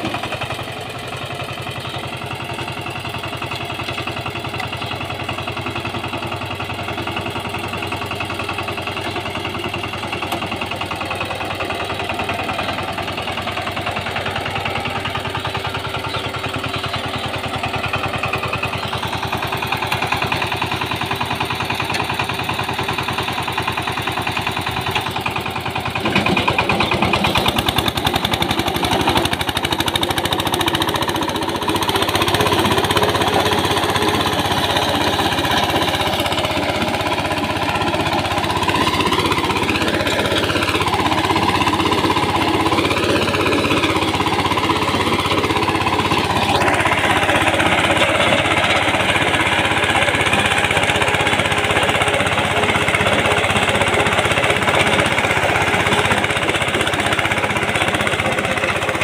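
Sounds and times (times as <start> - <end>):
diesel tiller engine chugging: 0.0 - 59.0
rotary tiller churning soil: 0.0 - 59.0.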